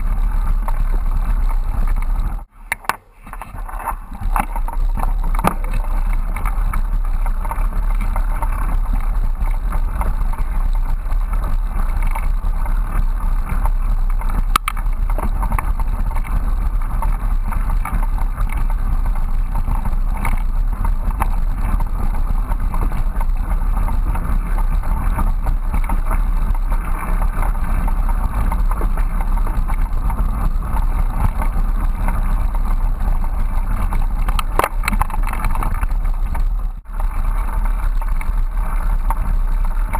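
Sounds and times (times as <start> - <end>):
bicycle tyres rumbling on trail: 0.0 - 39.9.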